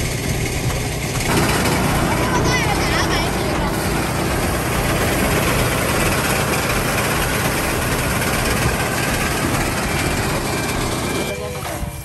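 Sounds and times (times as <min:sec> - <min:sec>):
threshing machine running: 0:00.0 - 0:12.0.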